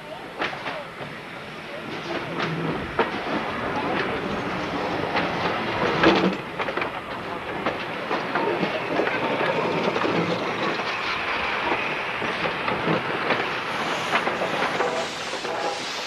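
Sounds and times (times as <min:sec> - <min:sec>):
train wheels clattering over rails: 0:00.2 - 0:16.0.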